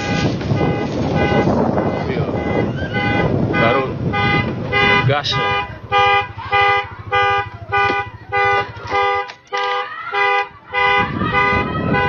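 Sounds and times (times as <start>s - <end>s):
car alarm two-tone horn blasts: 0.0s - 12.0s.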